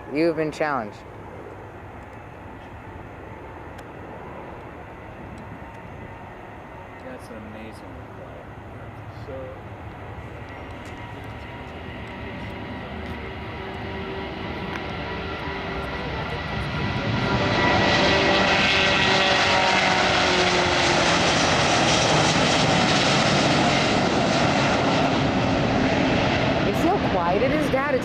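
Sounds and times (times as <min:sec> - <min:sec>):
jet airliner taking off: 0:00.0 - 0:28.0.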